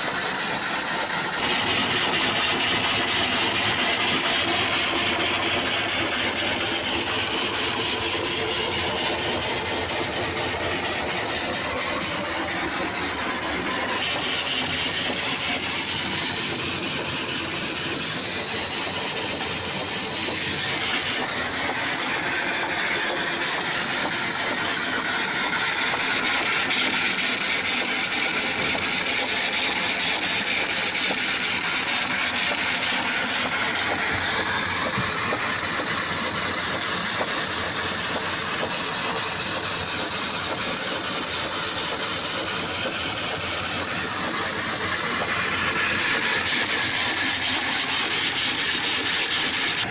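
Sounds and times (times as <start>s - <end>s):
belt driven well pump: 0.0s - 49.9s
electric motor running steadily: 0.0s - 49.9s.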